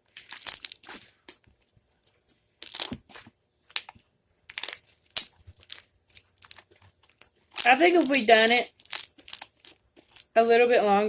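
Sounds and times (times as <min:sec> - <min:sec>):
slime crackling and popping in hands: 0:00.0 - 0:01.4, 0:02.0 - 0:10.4.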